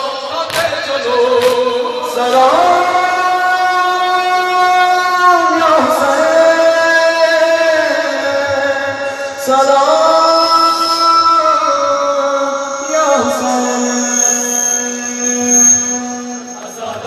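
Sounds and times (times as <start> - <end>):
person chanting a lament: 0.0 - 17.0.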